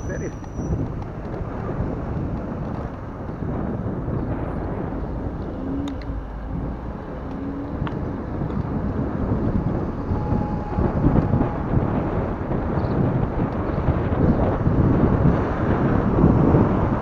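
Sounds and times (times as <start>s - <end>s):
bicycle rolling noise: 0.0s - 17.0s
wind buffeting microphone: 0.0s - 17.0s.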